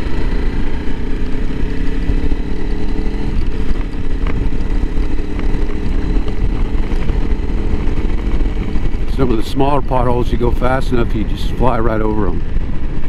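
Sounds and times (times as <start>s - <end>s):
motorcycle engine running: 0.0s - 13.0s
road and wind rumble: 0.0s - 13.0s.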